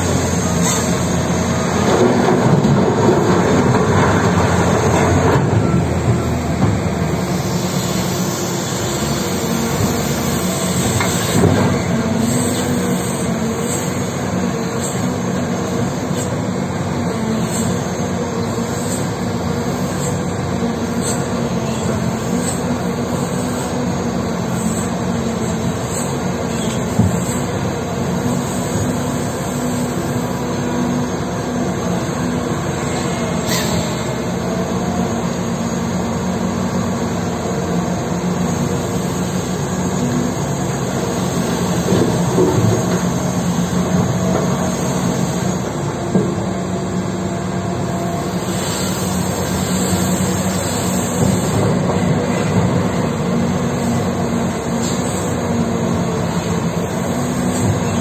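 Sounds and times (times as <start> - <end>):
mining shovel engine drone: 0.0 - 58.0.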